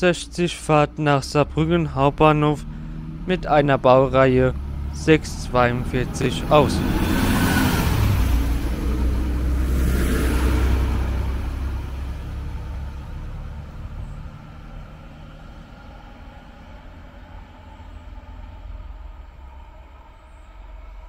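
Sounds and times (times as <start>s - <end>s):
diesel train engines rumbling: 0.0s - 21.0s.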